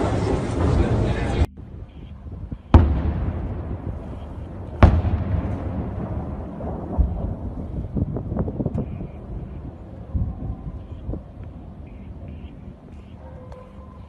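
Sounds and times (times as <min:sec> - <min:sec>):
distant explosions rumbling: 0:00.0 - 0:13.1.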